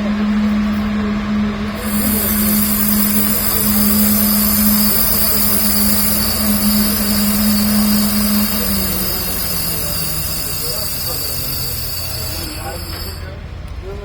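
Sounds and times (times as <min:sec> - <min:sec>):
laser welding machine humming: 0:01.7 - 0:13.4.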